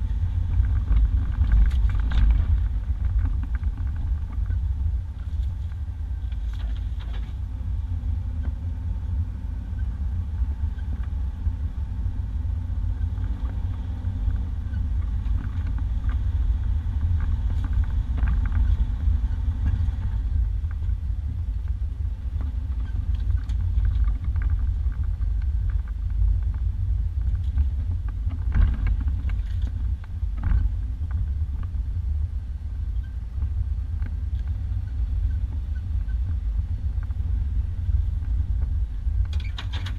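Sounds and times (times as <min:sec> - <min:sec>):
knocks and rattles over bumps: 0:00.0 - 0:07.4, 0:13.0 - 0:32.2, 0:33.4 - 0:39.9
vehicle rumbling on dirt track: 0:00.0 - 0:39.9.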